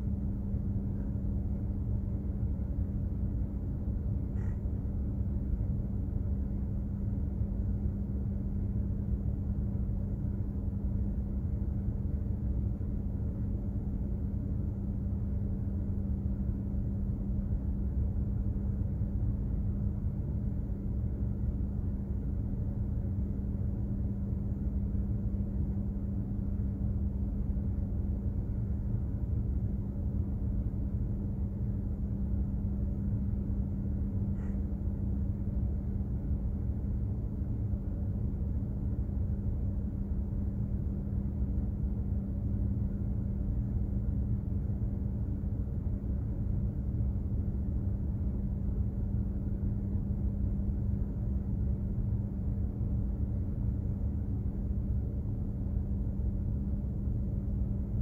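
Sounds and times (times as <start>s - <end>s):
ship machinery low hum: 0.0s - 58.0s.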